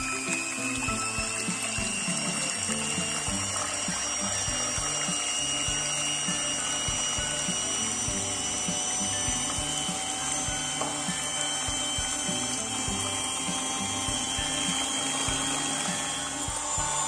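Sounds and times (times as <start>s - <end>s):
electric hand mixer whining: 0.0s - 17.0s.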